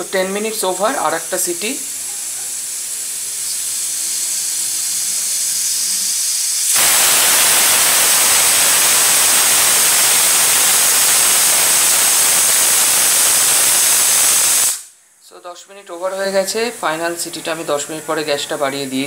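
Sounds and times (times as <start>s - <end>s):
pressure cooker steam hiss: 0.0s - 15.0s, 16.0s - 19.0s.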